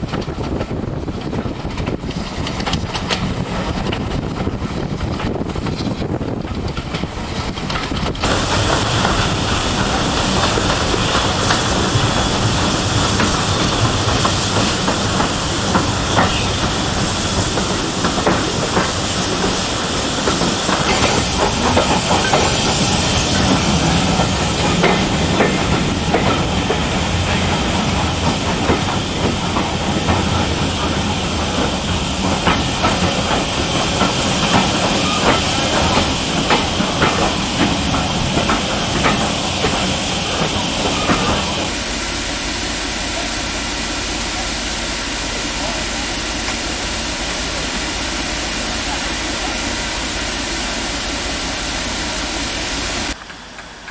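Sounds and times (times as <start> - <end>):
loud hiss of steam: 8.2 - 53.9.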